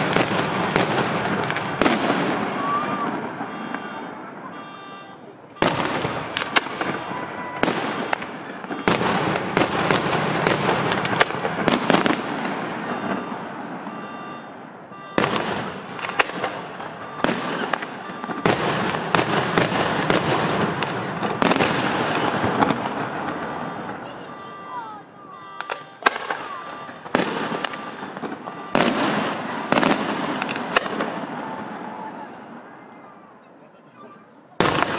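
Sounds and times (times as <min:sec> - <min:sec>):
fireworks bursting: 0:00.0 - 0:33.4, 0:34.0 - 0:34.9
fireworks crackling: 0:00.0 - 0:34.9.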